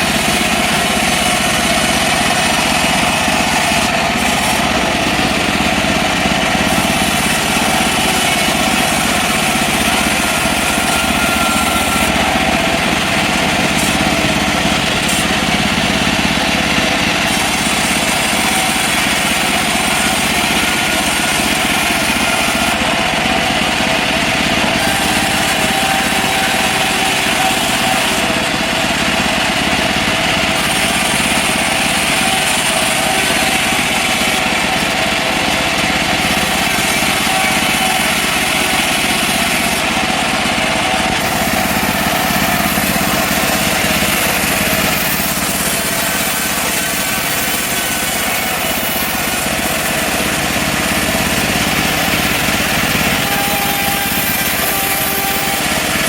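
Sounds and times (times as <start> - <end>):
bandsaw mill sawing a log: 0.0 - 56.0.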